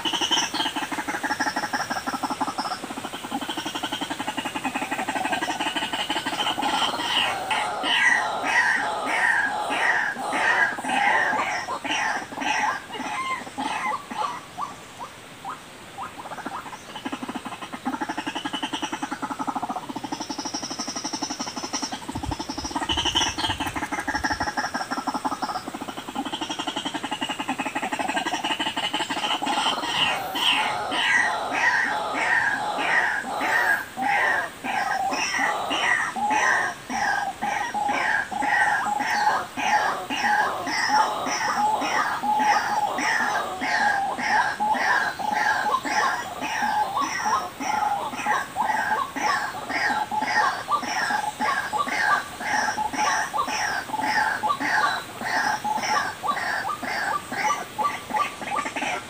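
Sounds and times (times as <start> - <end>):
bird calling: 0.0 - 59.0.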